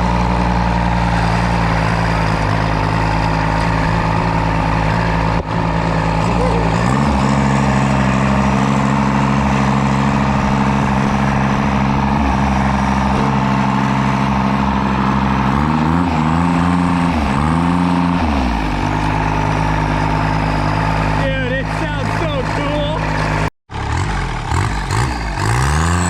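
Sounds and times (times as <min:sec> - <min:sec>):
lawn mower diesel engine: 0:00.0 - 0:26.0.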